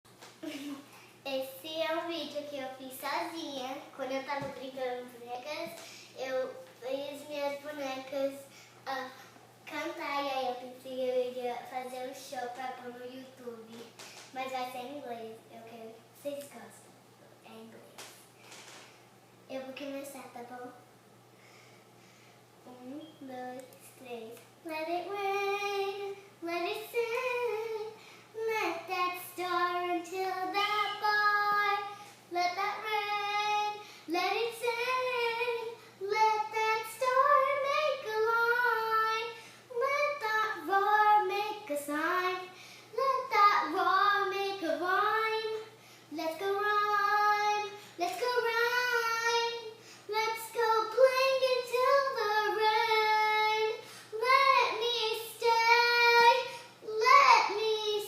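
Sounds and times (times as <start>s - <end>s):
girl singing unaccompanied: 0.4s - 16.8s, 22.6s - 58.0s.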